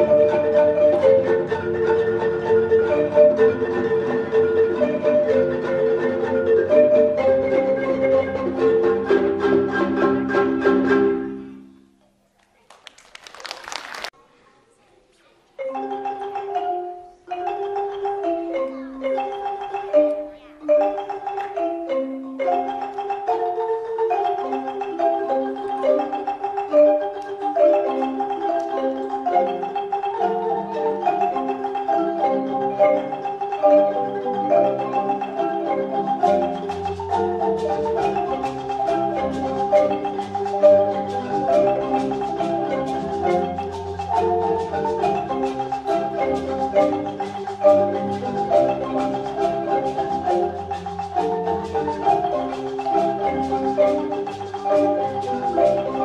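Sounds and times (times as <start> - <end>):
deep bass marimba: 0.0 - 11.7, 15.6 - 56.0
marimbas playing repeating pattern: 0.0 - 11.8, 15.6 - 56.0.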